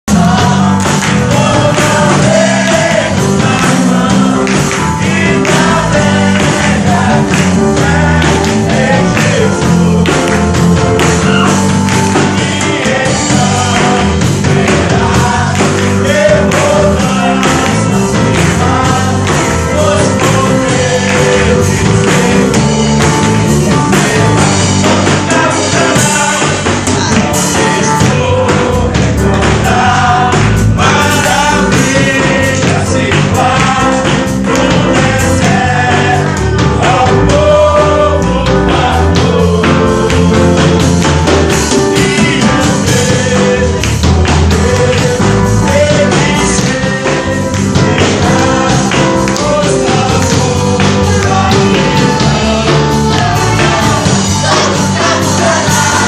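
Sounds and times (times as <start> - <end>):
men singing worship song: 0.0 - 56.0
band playing steady beat: 0.1 - 56.0.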